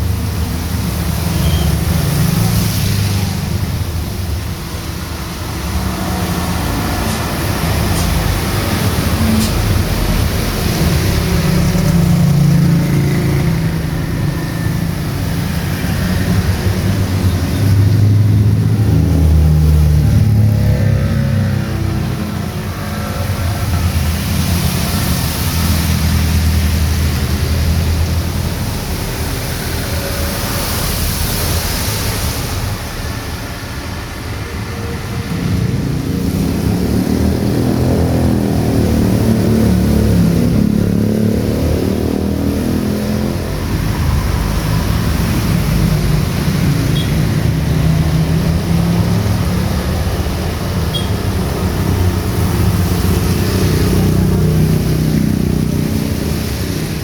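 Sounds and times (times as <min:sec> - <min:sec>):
heavy rain on a street: 0:00.0 - 0:57.0
vehicles driving past: 0:00.0 - 0:57.0.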